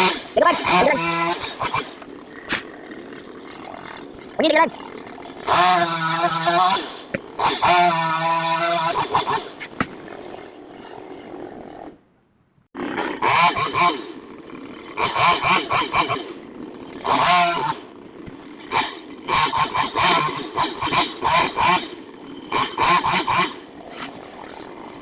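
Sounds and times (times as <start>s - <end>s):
chainsaw revving: 0.0s - 12.0s, 12.8s - 25.0s.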